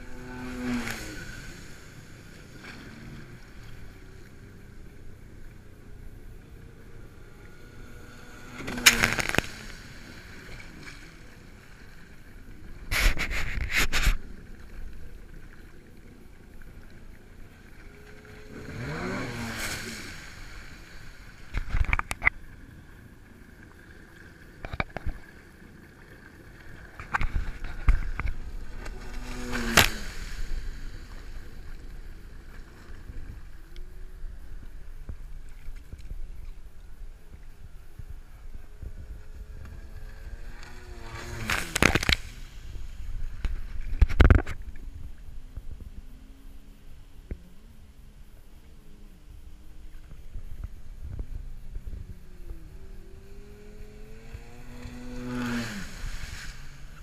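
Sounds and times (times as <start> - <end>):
jet ski engine running: 0.0 - 57.0
jet ski passing by: 0.0 - 57.0
water rushing: 0.0 - 57.0
water splashing against hull: 0.0 - 57.0.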